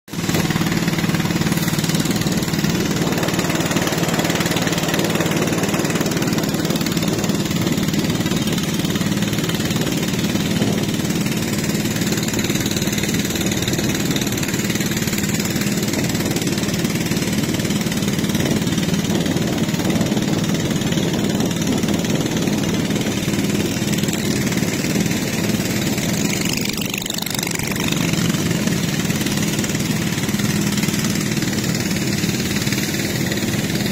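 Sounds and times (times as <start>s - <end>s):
boat engine droning: 0.1s - 33.9s.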